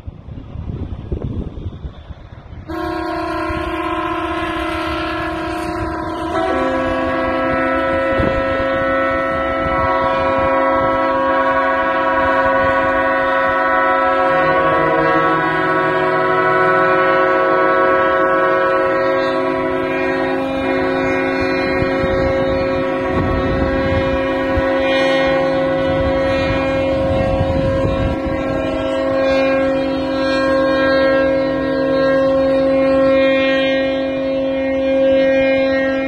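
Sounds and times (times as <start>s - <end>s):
ships' horns blasting: 2.6s - 36.0s.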